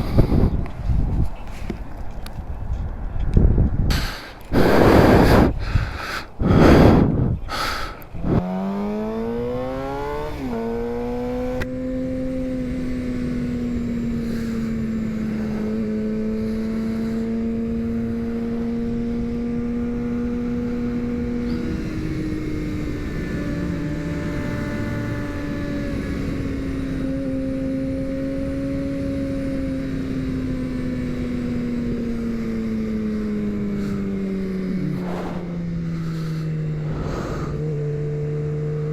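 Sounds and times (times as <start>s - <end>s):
motorcycle engine accelerating: 3.9s - 38.9s.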